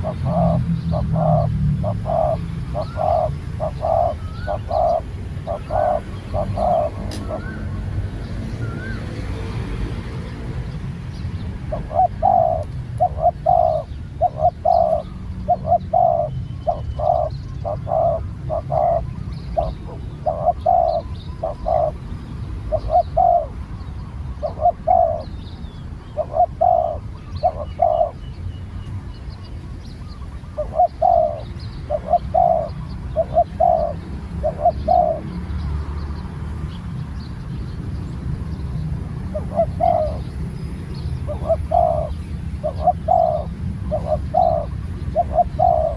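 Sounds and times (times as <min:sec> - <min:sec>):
doves cooing: 0:00.0 - 0:10.4, 0:11.6 - 0:23.6, 0:24.3 - 0:25.3, 0:26.0 - 0:28.3, 0:30.0 - 0:35.6, 0:39.0 - 0:45.9.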